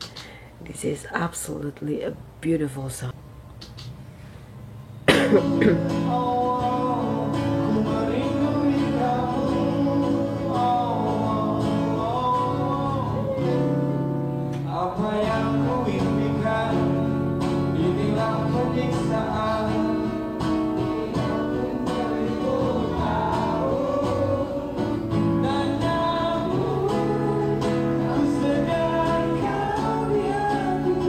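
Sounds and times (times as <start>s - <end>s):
strummed acoustic guitar: 5.1s - 31.0s
man singing: 5.3s - 13.9s, 14.6s - 31.0s.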